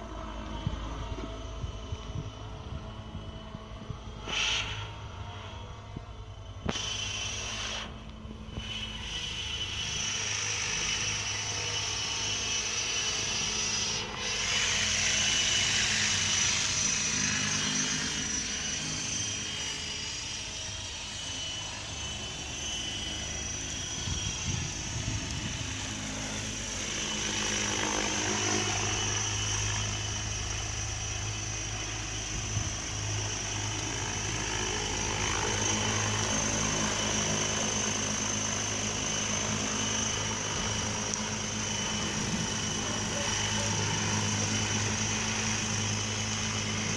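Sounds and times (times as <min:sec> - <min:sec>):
motor high whine: 0:00.0 - 0:46.9
rotor blades whirring: 0:00.0 - 0:46.9.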